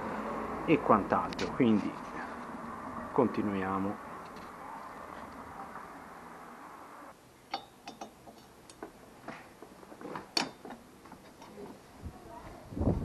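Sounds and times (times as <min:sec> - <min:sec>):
steady background hiss: 0:00.0 - 0:12.9.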